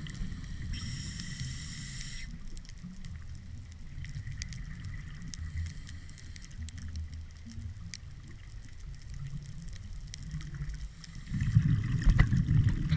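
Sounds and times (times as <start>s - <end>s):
faint sharp clicks: 0.0s - 11.2s
underwater rumble of moving water: 0.0s - 12.9s.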